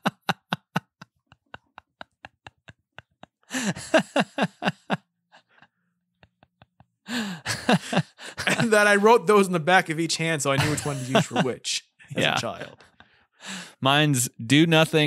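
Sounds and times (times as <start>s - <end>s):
men laughing: 0.0s - 9.4s, 10.6s - 13.2s.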